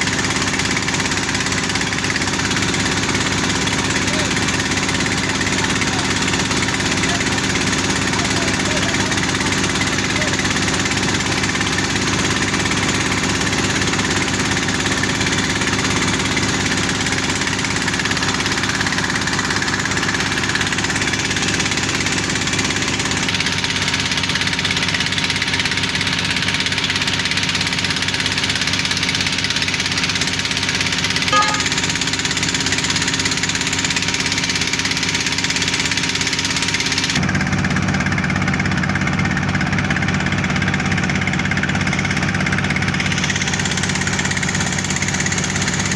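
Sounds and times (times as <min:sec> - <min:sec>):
drilling rig engine running: 0:00.0 - 0:45.9.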